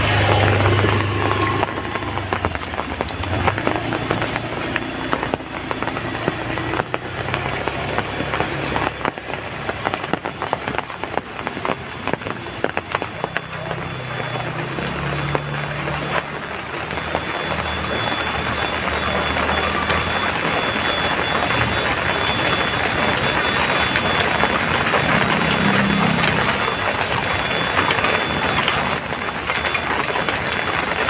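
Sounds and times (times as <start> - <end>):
heavy rain with close drops: 0.0 - 31.0.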